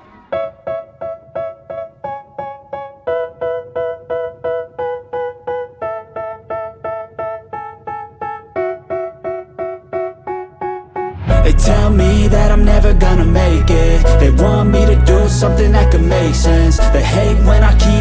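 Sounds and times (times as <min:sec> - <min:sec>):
keyboard striking repeated chords: 0:00.0 - 0:18.0.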